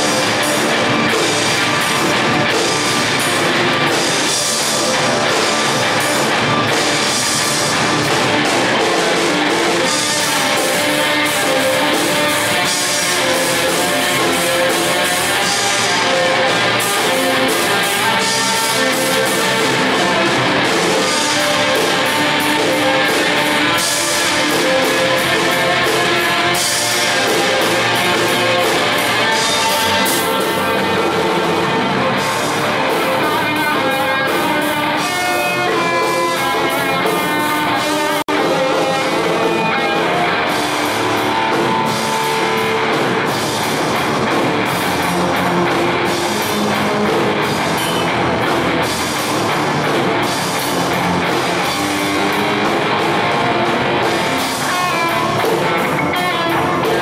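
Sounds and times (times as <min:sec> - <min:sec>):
drum kit: 0:00.0 - 0:57.0
electric bass: 0:00.0 - 0:57.0
electric guitar melody: 0:00.0 - 0:57.0.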